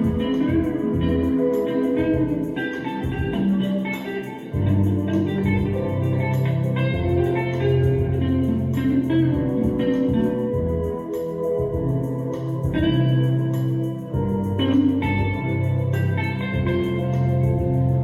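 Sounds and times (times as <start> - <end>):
bass line: 0.0 - 3.7, 4.6 - 18.0
plucked guitar-like notes: 0.0 - 18.0.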